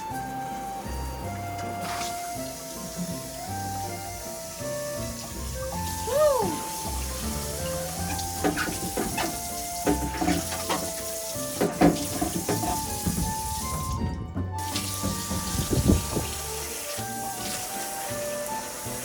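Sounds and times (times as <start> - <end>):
calm background music: 0.0 - 19.0
containers clinking: 0.0 - 19.0
water splashing in sink: 0.0 - 19.0.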